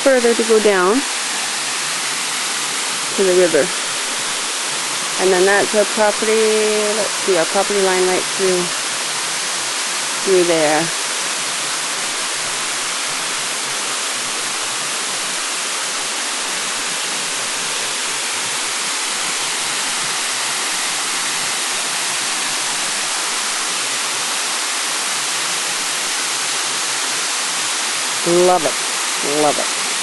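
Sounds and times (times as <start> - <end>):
river and waterfall rushing: 0.0 - 30.0.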